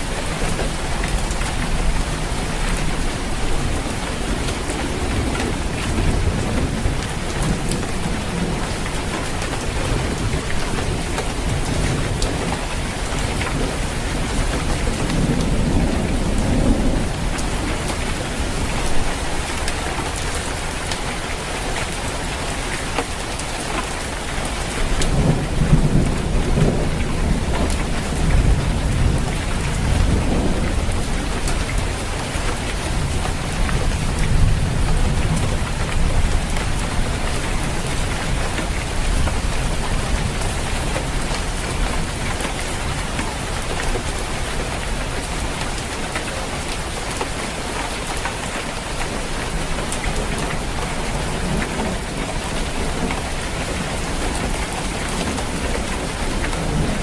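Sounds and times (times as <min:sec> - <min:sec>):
rain falling on a roof: 0:00.0 - 0:57.0.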